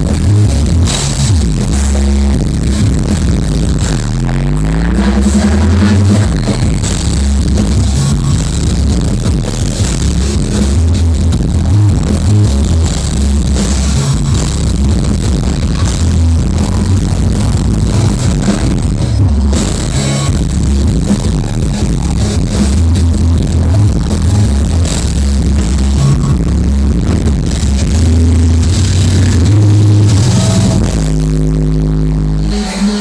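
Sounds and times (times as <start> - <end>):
electronic dance music with heavy bass: 0.0 - 33.0.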